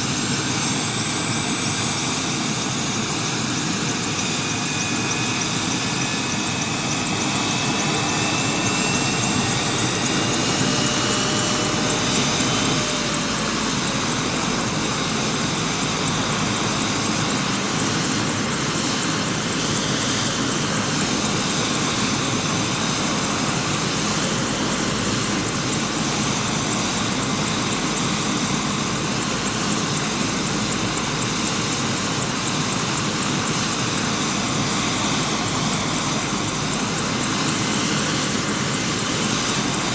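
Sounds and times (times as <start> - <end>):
helicopter rotor and engine: 0.0 - 39.9
high turbine whine: 0.0 - 39.9.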